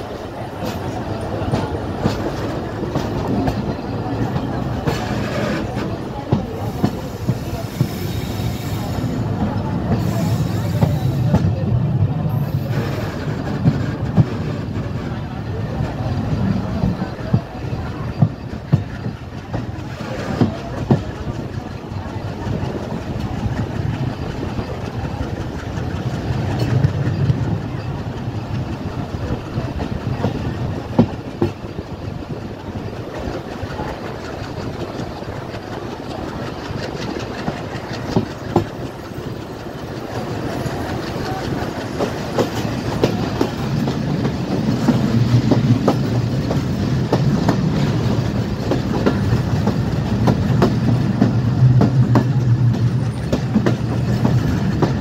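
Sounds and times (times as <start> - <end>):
train wheels on track: 0.0 - 55.0.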